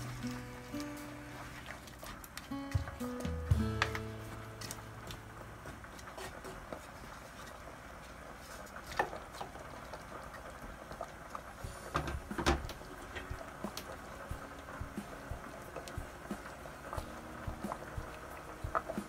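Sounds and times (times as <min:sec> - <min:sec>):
wooden spatula stirring stew: 0:00.0 - 0:04.8, 0:05.7 - 0:11.0, 0:11.7 - 0:19.0.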